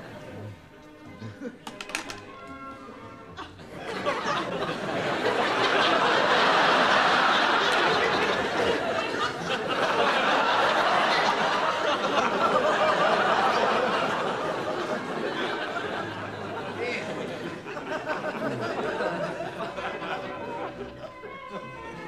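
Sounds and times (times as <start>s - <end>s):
audience laughing: 3.2s - 22.0s.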